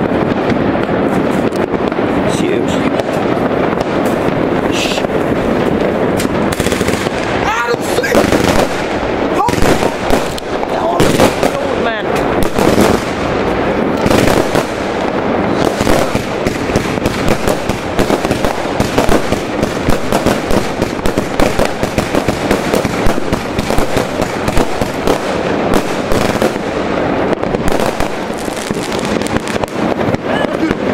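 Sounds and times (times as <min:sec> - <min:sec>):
fireworks shots and crackles: 0:00.0 - 0:30.9.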